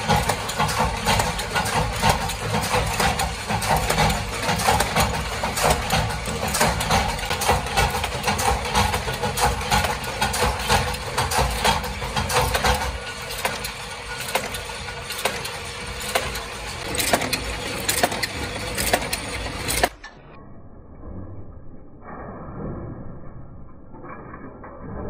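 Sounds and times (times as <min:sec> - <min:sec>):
workshop machinery hum: 0:00.0 - 0:20.2.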